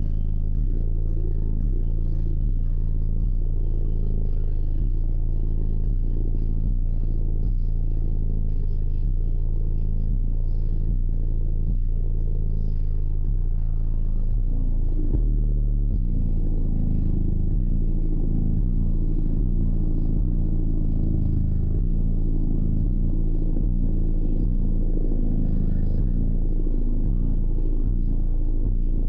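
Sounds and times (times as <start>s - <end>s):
bass-heavy music from subwoofers: 0.0s - 29.0s.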